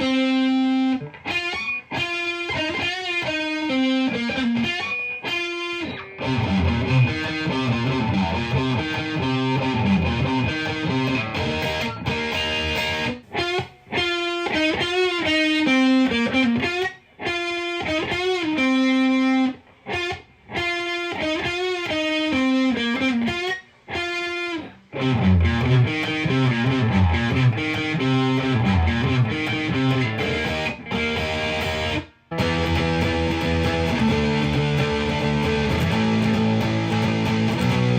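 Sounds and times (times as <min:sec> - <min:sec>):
overdriven electric guitar: 0:00.0 - 0:37.9.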